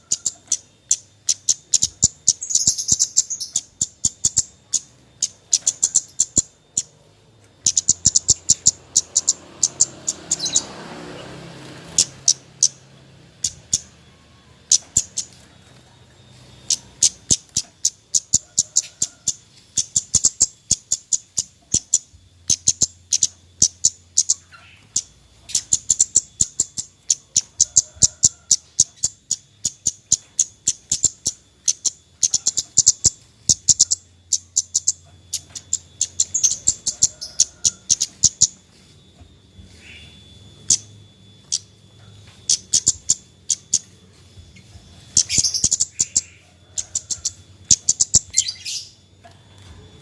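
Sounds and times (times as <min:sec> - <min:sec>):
bird calling sharp chips: 0:00.0 - 0:49.2.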